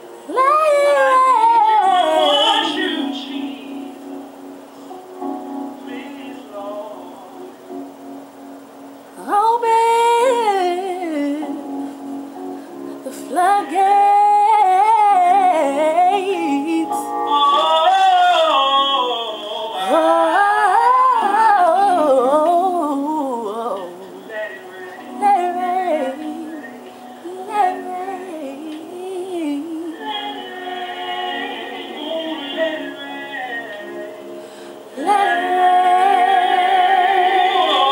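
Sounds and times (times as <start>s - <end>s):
woman singing gospel: 0.0s - 4.2s, 9.2s - 12.0s, 12.7s - 18.5s, 19.7s - 37.9s
backing music: 0.0s - 37.9s.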